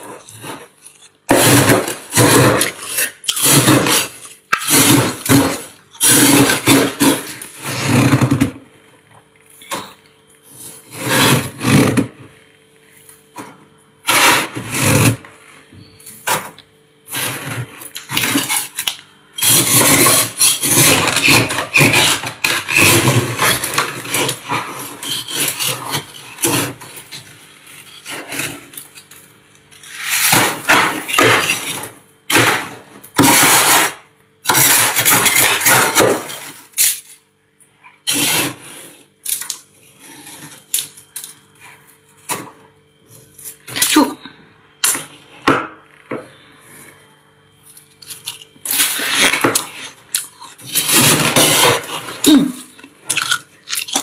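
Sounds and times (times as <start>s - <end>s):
freezer frost crunching: 0.0s - 37.3s, 46.3s - 54.0s
faint steady hum: 0.0s - 54.0s.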